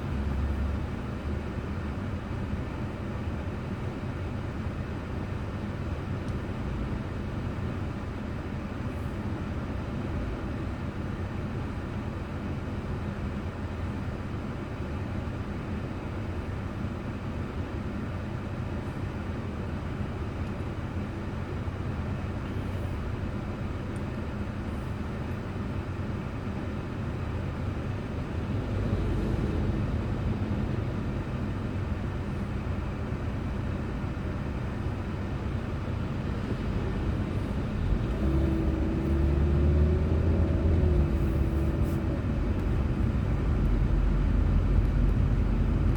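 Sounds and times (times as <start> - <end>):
car road and engine noise: 0.0 - 45.9.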